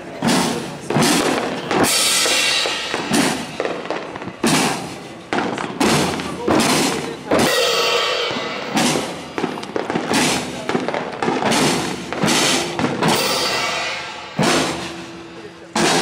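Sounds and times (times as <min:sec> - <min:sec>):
field drums beating marching rhythm: 0:00.0 - 0:16.0.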